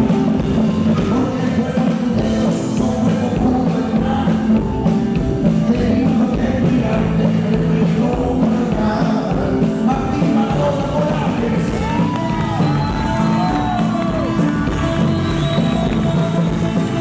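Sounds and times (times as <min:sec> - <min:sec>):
live rock band playing: 0:00.0 - 0:17.0
man singing: 0:00.0 - 0:17.0.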